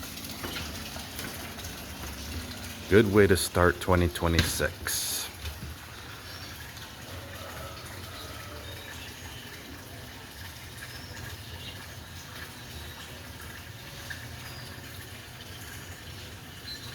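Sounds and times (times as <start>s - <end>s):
water trickling into pond: 0.0s - 16.9s.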